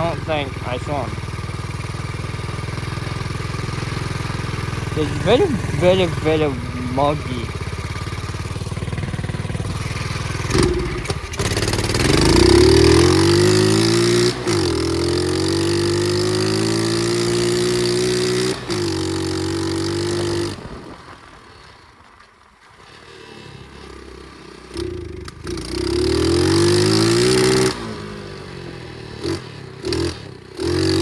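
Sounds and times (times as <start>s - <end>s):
pit bike engine revving: 0.0s - 20.6s, 23.9s - 31.0s.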